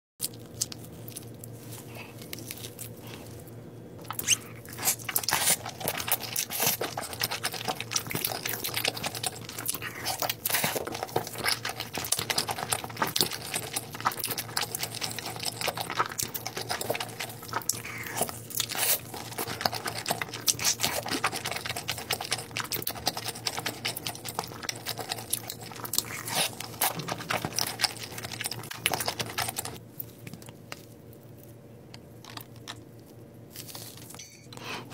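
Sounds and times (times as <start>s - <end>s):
crunchy biting and chewing: 0.2s - 31.0s.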